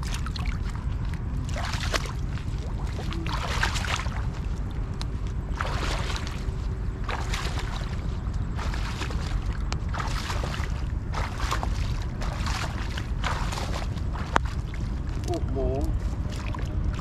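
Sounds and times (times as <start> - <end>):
steady low rumble: 0.0 - 17.0
water splashing and sloshing: 0.0 - 17.0.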